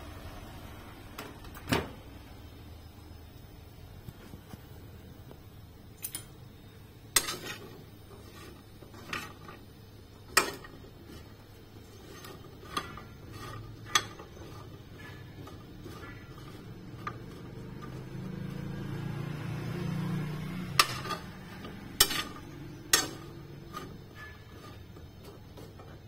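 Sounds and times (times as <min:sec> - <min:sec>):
microwave hum: 0:00.0 - 0:26.0.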